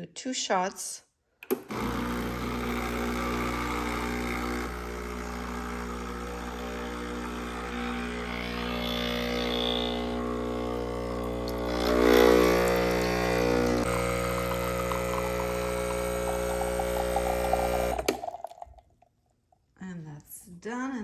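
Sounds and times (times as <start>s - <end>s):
espresso machine pump humming: 1.6s - 18.6s.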